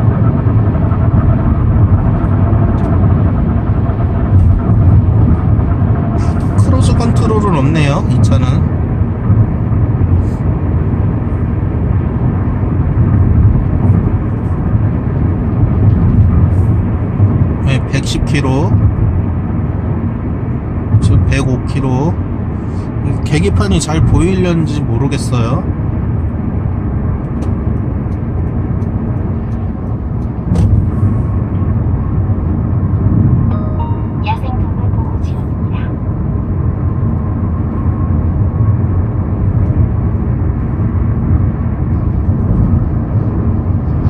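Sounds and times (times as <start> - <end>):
in-car road and engine rumble: 0.0 - 44.0.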